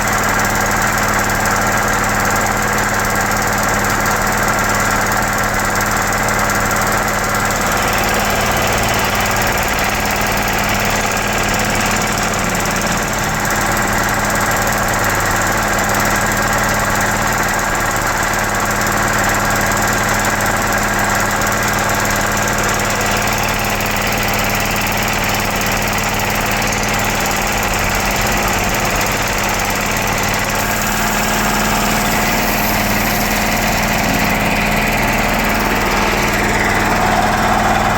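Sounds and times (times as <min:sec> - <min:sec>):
air compressor running: 0:00.0 - 0:37.9.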